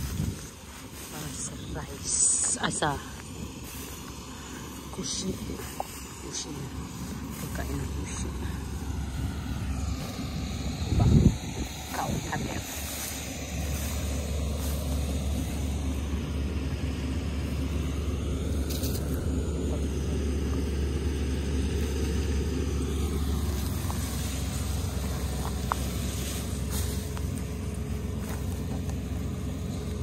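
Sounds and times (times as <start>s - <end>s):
combine harvester engine rumbling: 0.0s - 30.0s.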